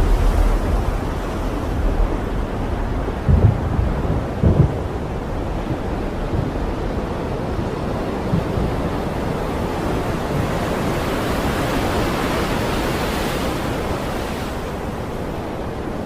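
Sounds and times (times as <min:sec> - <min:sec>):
stormy sea waves: 0:00.0 - 0:16.0
wind: 0:00.0 - 0:16.0.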